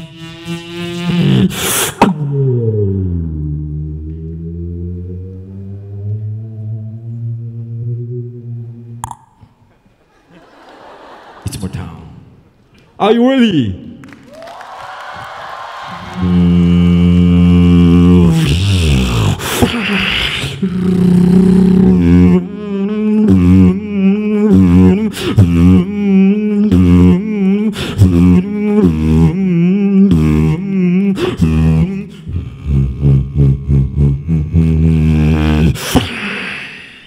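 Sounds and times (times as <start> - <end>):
person beatboxing into a microphone: 0.0 - 9.7, 16.0 - 37.0.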